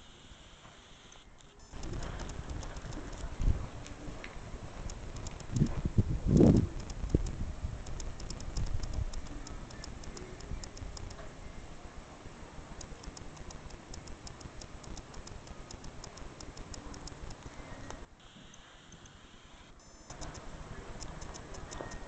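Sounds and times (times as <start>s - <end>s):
high-pitched ticking: 0.0s - 3.4s, 4.8s - 11.2s, 12.8s - 22.0s.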